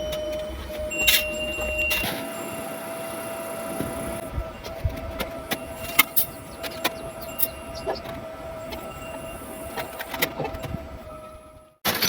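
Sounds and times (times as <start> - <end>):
steady hum: 0.0 - 11.8.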